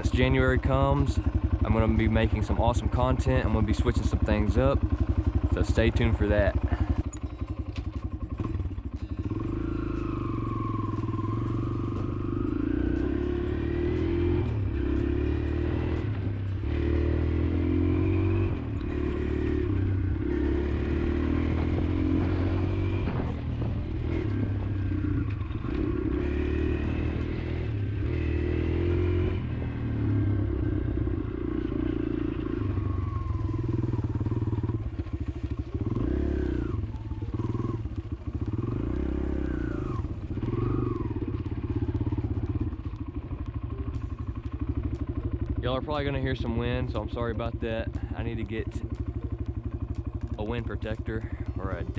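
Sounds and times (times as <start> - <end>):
dirt bike engine running: 0.0 - 51.9.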